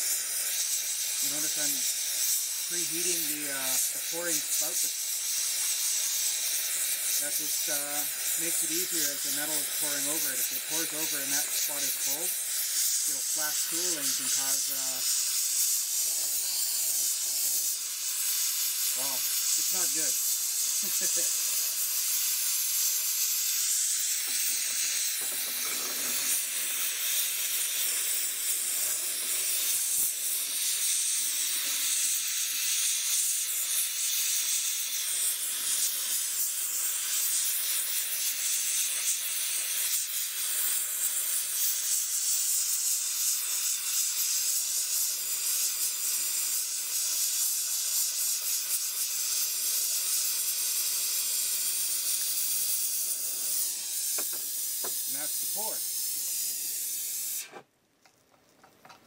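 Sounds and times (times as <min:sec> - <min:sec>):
torch flame hissing: 0:00.0 - 0:57.8.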